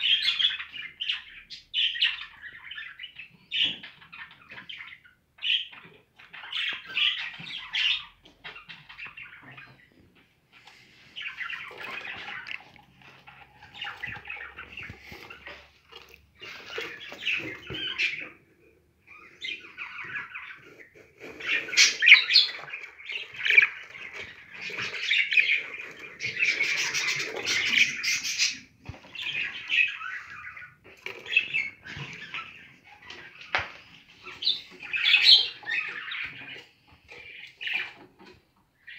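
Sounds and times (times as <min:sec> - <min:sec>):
budgerigars chattering and squawking: 0:00.0 - 0:15.7, 0:16.3 - 0:18.5, 0:19.1 - 0:38.9.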